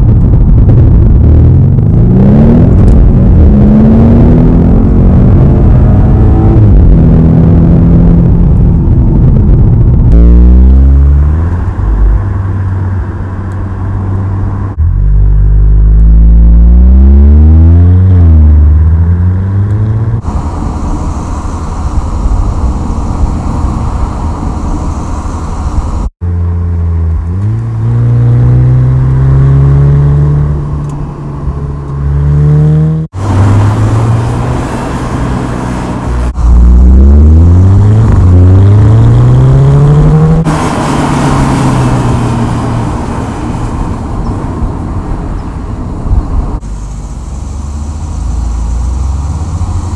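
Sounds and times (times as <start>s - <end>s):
car engine accelerating: 0.0s - 49.9s
road and wind noise: 0.0s - 49.9s.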